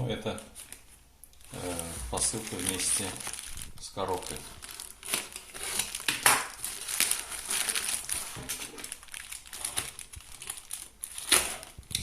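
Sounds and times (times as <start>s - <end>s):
packaging crinkling and crumpling: 0.2s - 12.0s.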